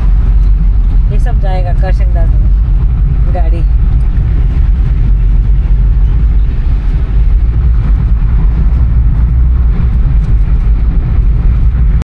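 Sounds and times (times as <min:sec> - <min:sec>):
car road and wind rumble: 0:00.0 - 0:12.0.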